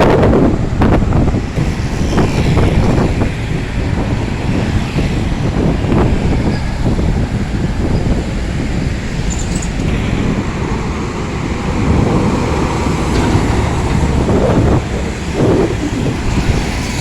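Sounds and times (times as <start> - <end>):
vehicle engine and road rumble: 0.0 - 17.0
wind buffeting microphone: 0.0 - 17.0.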